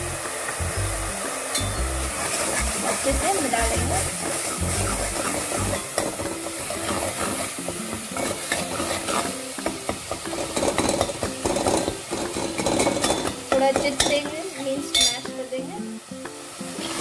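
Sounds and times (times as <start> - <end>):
masala sizzling in hot oil: 0.0 - 17.0.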